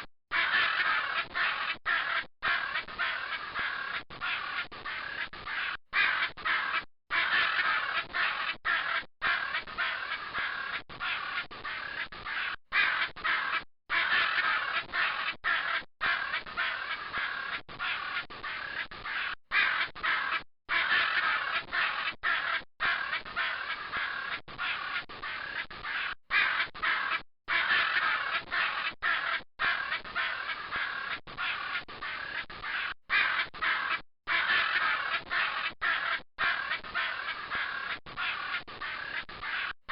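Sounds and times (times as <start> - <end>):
macaw squawking: 0.0 - 39.9.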